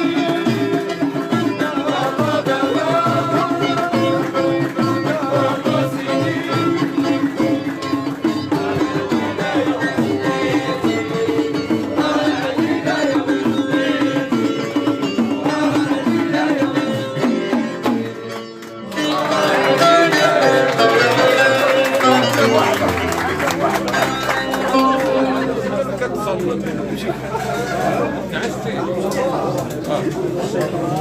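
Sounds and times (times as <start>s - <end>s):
melody over percussion rhythm: 0.0s - 30.4s.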